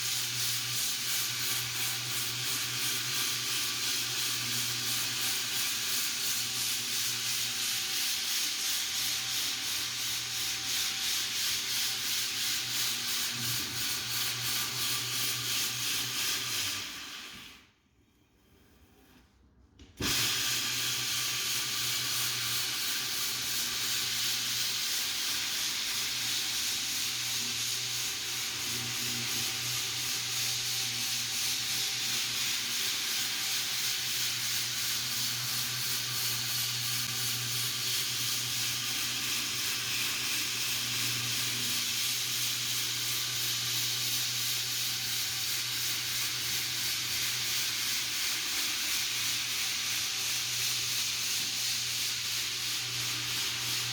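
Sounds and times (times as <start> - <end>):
floor sander abrasive hiss: 0.0 - 17.8, 20.0 - 53.9.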